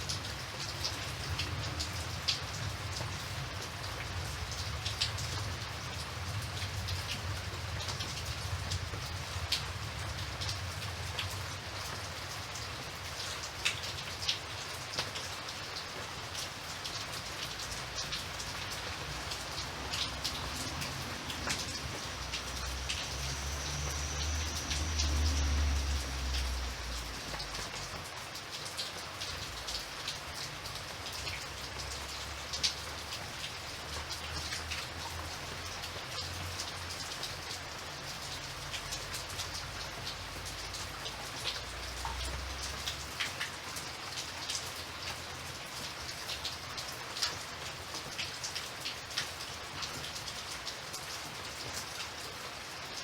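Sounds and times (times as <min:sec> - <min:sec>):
raindrops ticking on a surface: 0:00.0 - 0:53.0
steady rain hiss: 0:00.0 - 0:53.0.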